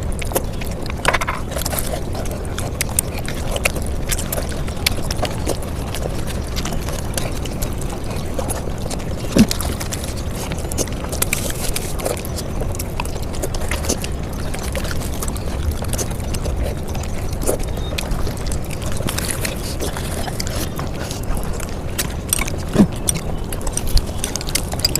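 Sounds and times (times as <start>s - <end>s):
sped-up chewing and mouth clicks: 0.0s - 24.9s.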